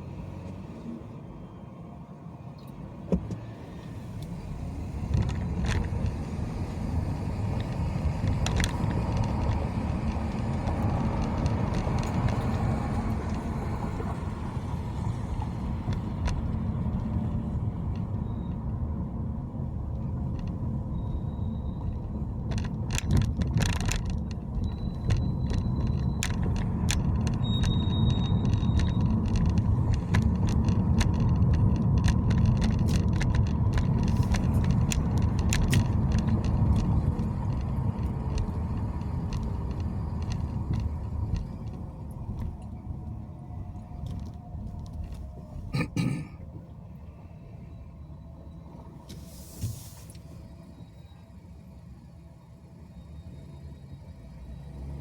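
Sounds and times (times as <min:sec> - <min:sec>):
car road noise rumble: 0:00.0 - 0:55.0.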